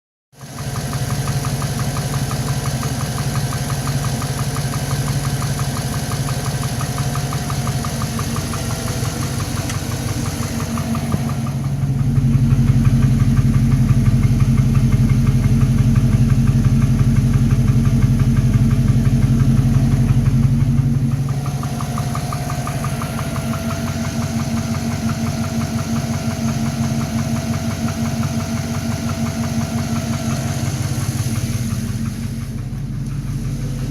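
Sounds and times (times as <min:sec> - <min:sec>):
engine idling with fast knock: 0:00.4 - 0:33.9.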